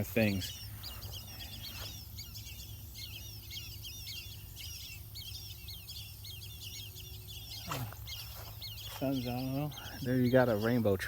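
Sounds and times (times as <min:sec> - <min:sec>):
whistling ducks calling: 0:00.0 - 0:11.0.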